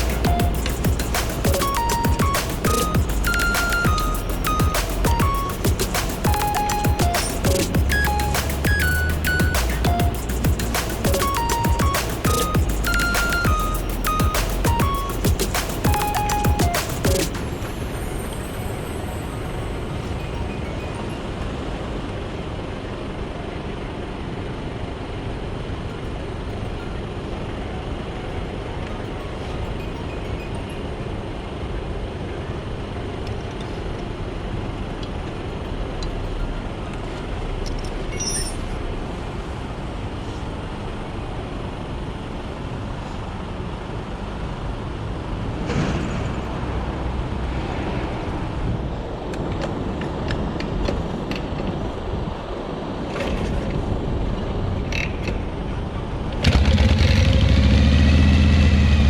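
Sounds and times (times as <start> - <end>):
motor vehicle noise: 0.0 - 23.3, 33.8 - 59.0.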